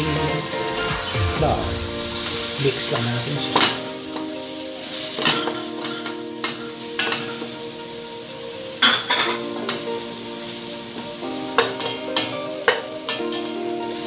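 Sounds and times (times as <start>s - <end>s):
butter sizzling: 0.0s - 14.0s.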